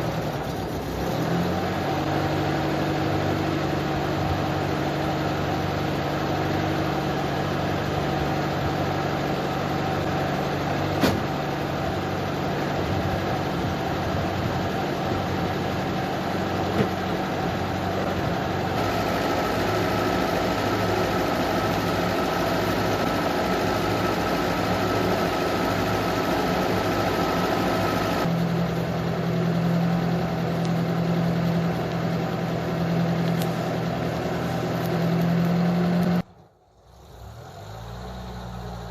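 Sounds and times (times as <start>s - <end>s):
higher engine whine: 0.0s - 38.9s
off-road vehicle engine running: 0.0s - 38.9s.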